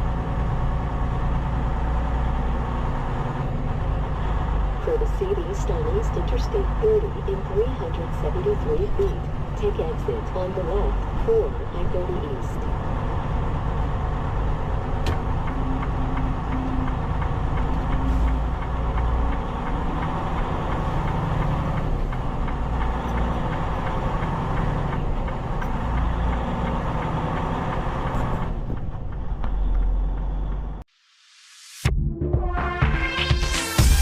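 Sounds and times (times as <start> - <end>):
truck engine and road rumble: 0.0 - 30.9.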